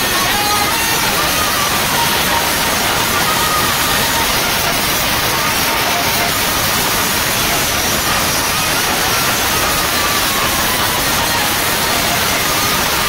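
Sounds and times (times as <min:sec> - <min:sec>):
distorted sound system noise: 0:00.0 - 0:13.0.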